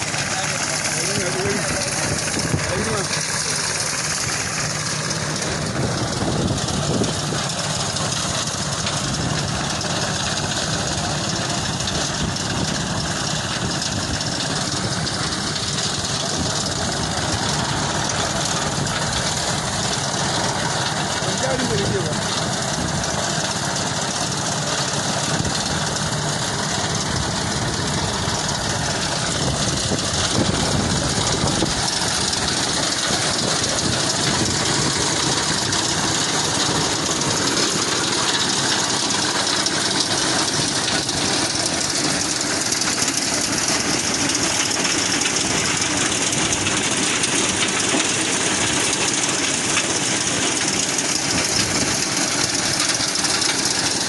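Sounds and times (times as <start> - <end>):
engine running loudly: 0.0 - 54.0.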